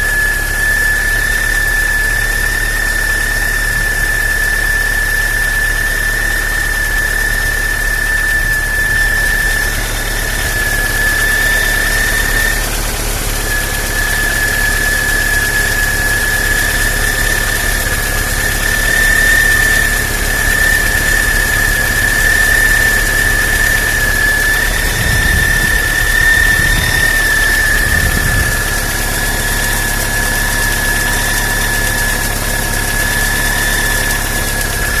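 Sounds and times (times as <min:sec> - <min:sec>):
car engine idling: 0:00.0 - 0:35.0
water pump whistle: 0:00.0 - 0:35.0.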